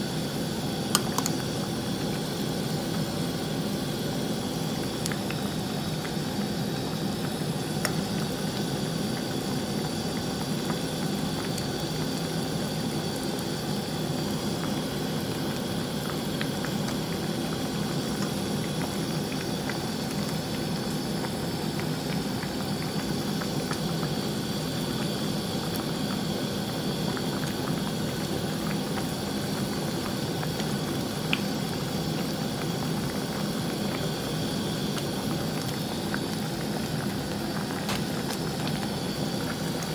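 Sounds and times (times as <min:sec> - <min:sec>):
broth boiling and bubbling: 0:00.0 - 0:39.9.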